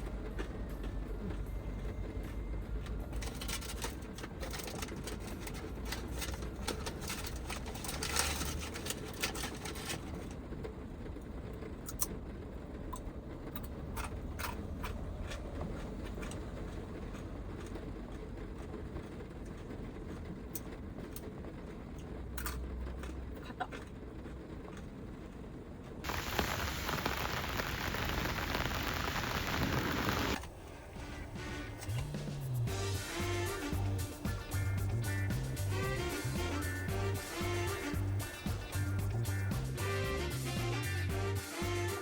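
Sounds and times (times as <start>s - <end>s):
rain on a van roof: 0.0s - 40.8s.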